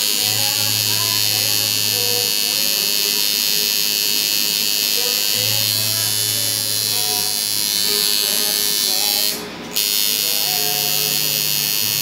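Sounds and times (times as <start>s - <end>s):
tattoo machine buzzing: 0.0s - 12.0s.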